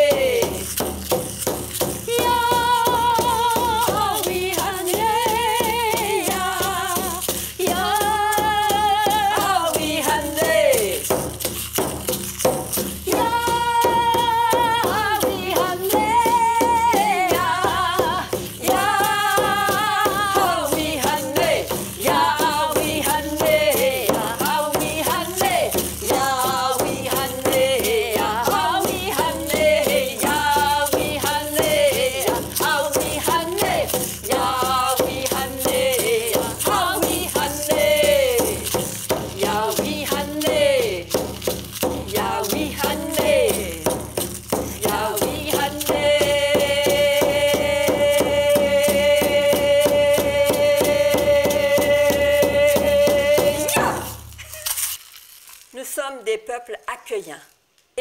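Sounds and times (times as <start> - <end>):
women singing: 0.0 - 0.8, 1.8 - 11.2, 12.7 - 54.2
shaken rattle: 0.0 - 56.0.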